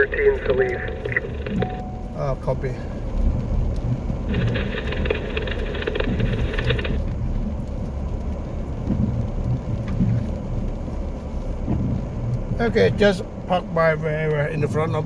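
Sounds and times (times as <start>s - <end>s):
car engine and tyres rumble: 0.0s - 15.0s.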